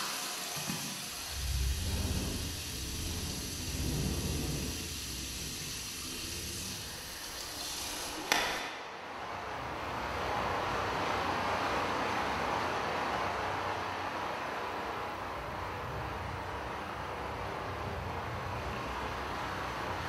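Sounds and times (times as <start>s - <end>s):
rushing water: 0.0s - 20.0s
low rumbling drone with hiss: 1.2s - 8.3s, 9.0s - 20.0s.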